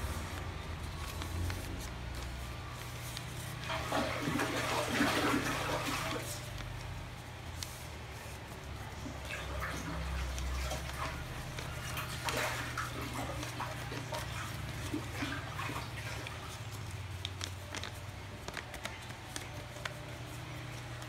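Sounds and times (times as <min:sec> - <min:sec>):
paper rustling and crinkling: 0:00.0 - 0:21.0.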